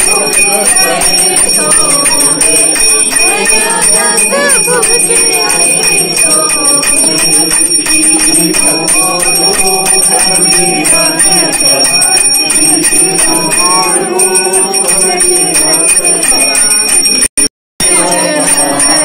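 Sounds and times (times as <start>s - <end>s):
group of voices singing: 0.0s - 19.0s
hand bell ringing: 0.0s - 19.0s.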